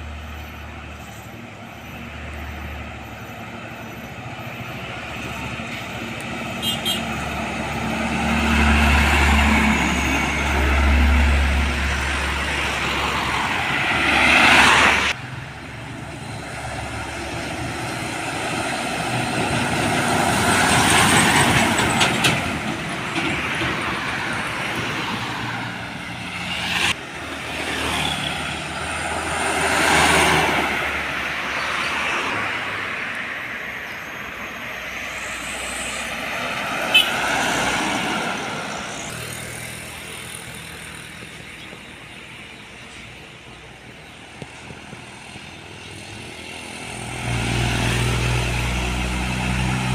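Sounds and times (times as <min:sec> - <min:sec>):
diesel trucks passing: 0:00.0 - 0:49.9.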